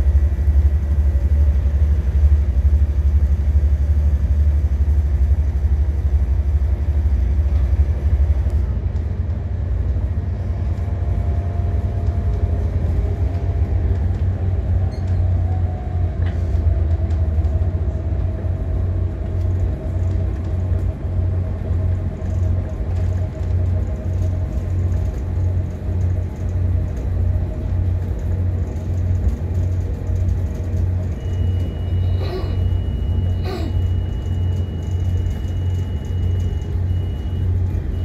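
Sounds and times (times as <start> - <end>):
railcar pulsing rumble: 0.0 - 38.0.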